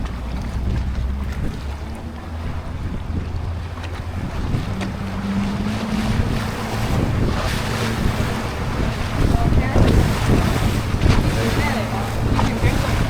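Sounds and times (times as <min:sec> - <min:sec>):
boat engine running: 0:00.0 - 0:13.0
water rushing past hull: 0:00.0 - 0:13.0
wind buffeting microphone: 0:00.0 - 0:13.0.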